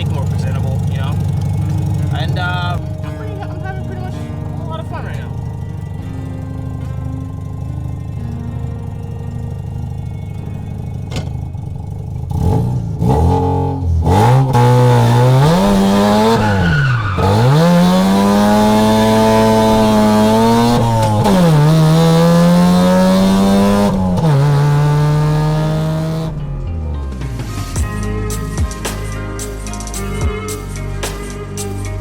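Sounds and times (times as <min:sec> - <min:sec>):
rotary engine accelerating: 0:00.0 - 0:27.8.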